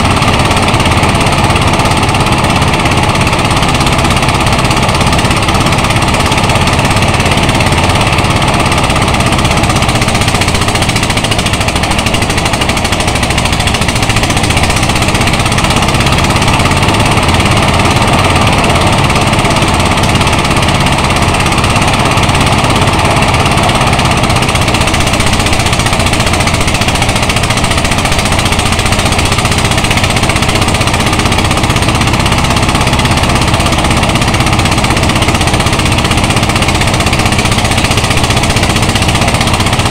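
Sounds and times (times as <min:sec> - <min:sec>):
rice thresher running: 0:00.0 - 0:39.9.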